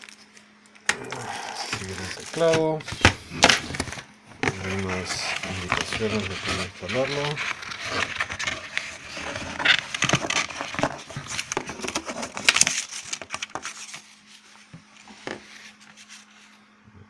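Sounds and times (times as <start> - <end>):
paper packaging crinkling: 0.0 - 16.4.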